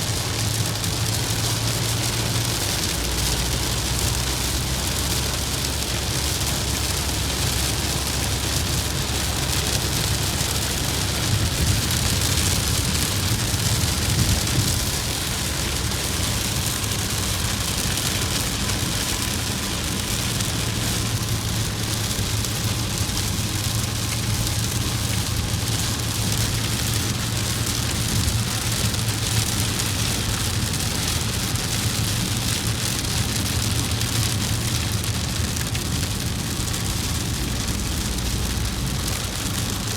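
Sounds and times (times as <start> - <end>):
heavy rain hissing: 0.0 - 39.9
vehicle rumble: 0.0 - 39.9.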